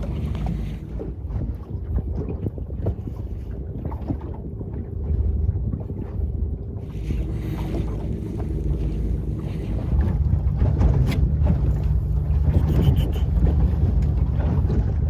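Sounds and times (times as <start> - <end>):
boat engine hum: 0.0 - 15.0
wind buffeting microphone: 0.0 - 15.0.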